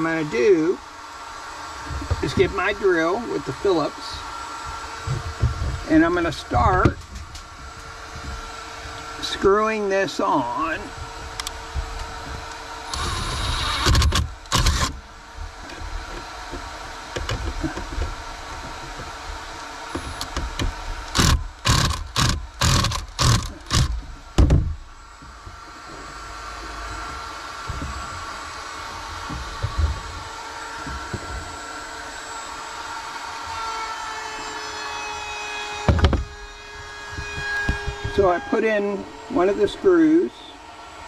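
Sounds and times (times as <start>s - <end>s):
power drill motor whine: 0.8s - 41.0s.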